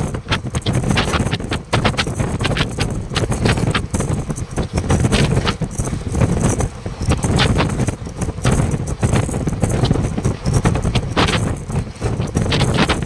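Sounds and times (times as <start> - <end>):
train clattering and knocking: 0.0 - 13.0
train wheels rumbling on rails: 0.0 - 13.0
wind on the microphone: 0.0 - 13.0.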